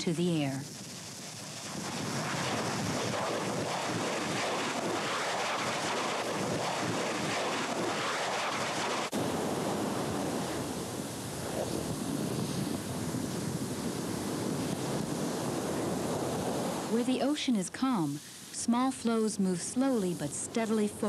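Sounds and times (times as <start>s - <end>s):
steam explosions crackling: 0.0s - 21.0s
surf breaking over lava: 0.8s - 18.0s.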